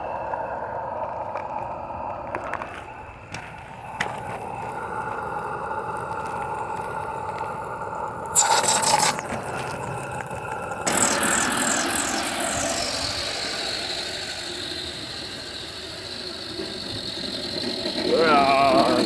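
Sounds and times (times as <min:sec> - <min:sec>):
model steam locomotive running: 0:00.0 - 0:19.0
wheels clicking: 0:00.0 - 0:19.0
loud rush of steam: 0:03.2 - 0:19.0.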